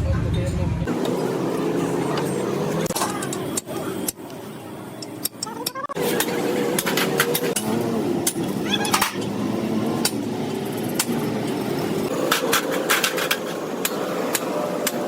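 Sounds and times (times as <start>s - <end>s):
workshop background hum: 0.0s - 15.0s.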